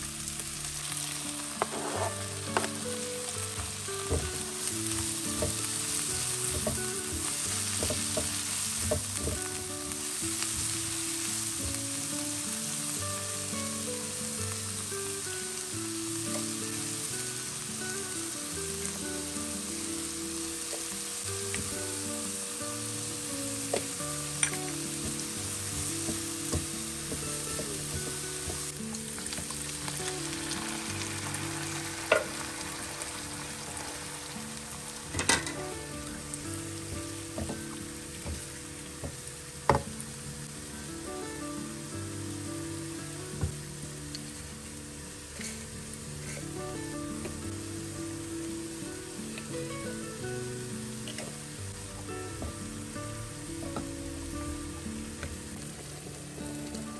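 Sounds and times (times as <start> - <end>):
oil sizzling in a wok: 0.0 - 56.9
soft background melody: 0.0 - 56.9.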